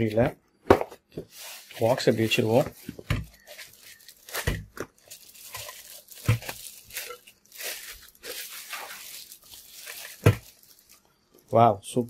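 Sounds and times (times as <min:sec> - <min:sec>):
plastic bag crinkling: 0:01.3 - 0:11.5.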